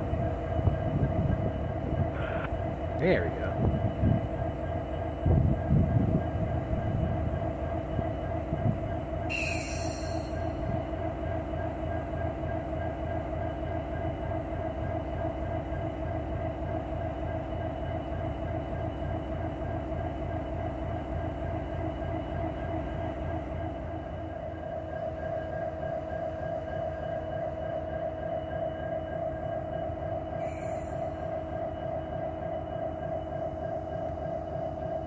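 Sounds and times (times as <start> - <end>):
diesel locomotive engine idling: 0.0 - 35.0.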